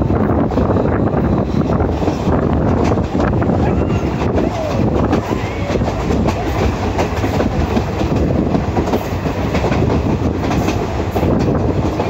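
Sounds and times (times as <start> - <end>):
train rumble: 0.0 - 12.0
wheels clattering on rails: 1.6 - 12.0.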